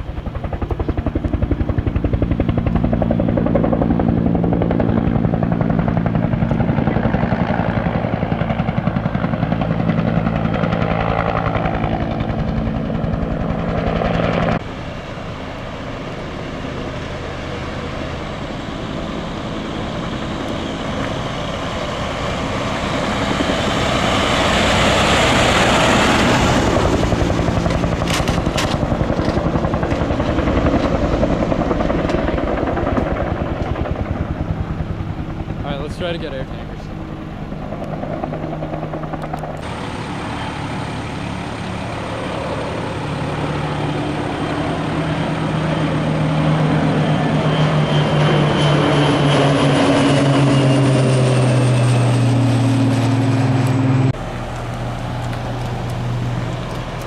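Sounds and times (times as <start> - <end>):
aircraft passing: 0.0 - 57.0
helicopter rotor beating: 0.0 - 57.0.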